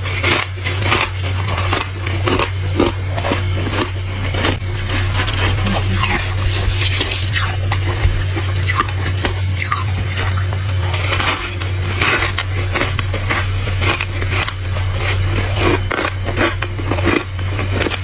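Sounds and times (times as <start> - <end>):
low hum: 0.0 - 18.0
person chewing crunchy frost: 0.0 - 18.0.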